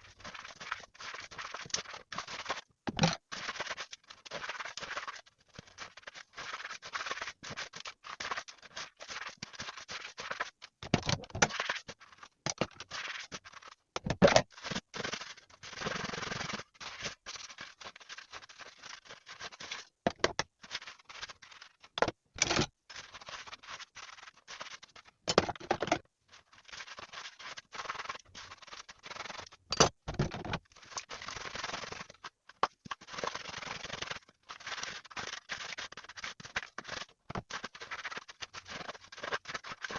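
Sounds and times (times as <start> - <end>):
scratching and scrubbing: 0.0 - 13.8, 14.4 - 25.2, 26.3 - 39.9.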